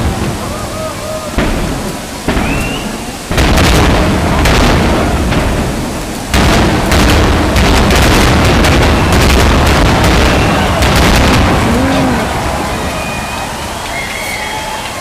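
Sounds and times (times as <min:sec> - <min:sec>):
firework shells bursting: 0:01.3 - 0:15.0.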